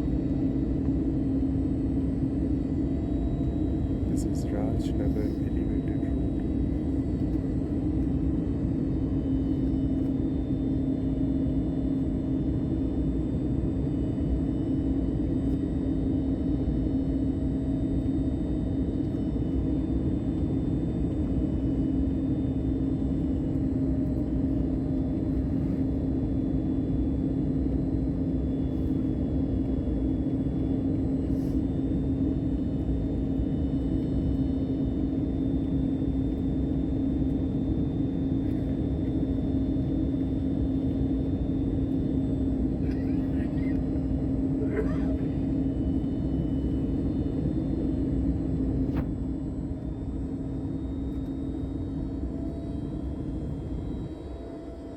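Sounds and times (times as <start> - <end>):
airliner cabin engine rumble: 0.0 - 54.9
constant low hum: 0.0 - 54.9.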